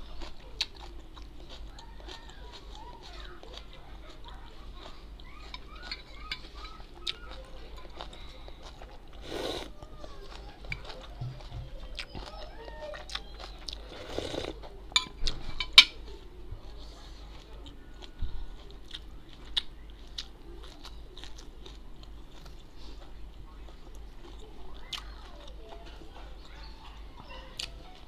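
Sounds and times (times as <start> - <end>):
person chewing and crunching food: 0.0 - 28.0.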